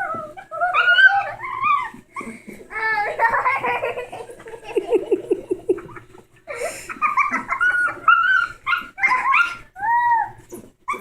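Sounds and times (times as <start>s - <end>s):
puppies yipping and whining: 0.0s - 4.0s, 5.8s - 11.0s.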